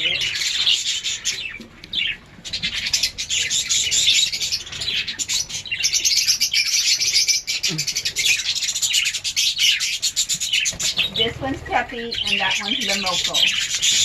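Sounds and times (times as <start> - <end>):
parrots chattering and chirping: 0.0 - 14.0.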